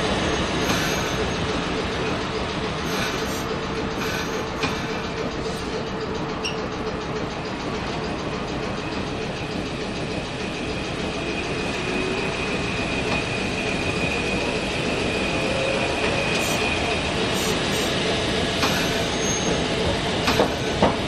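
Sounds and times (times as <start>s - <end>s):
tram motors and wheels rumbling: 0.0s - 21.0s.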